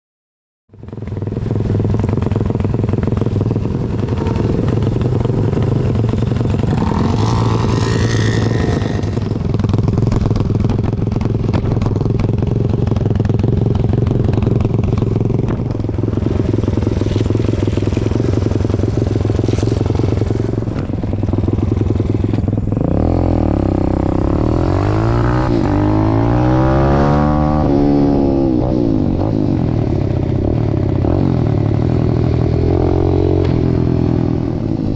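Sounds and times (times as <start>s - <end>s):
motorbike engine revving: 0.9s - 34.9s.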